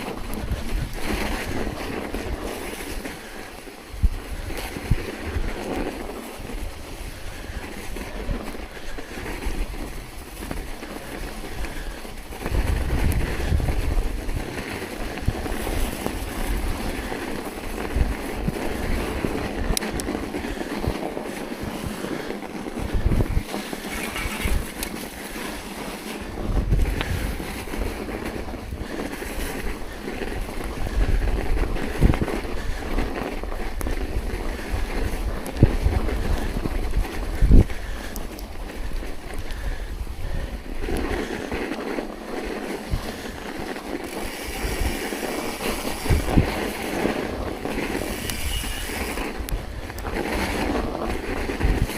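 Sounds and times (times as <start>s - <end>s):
steady rushing noise: 0.0s - 51.9s
wind buffeting microphone: 0.0s - 51.9s.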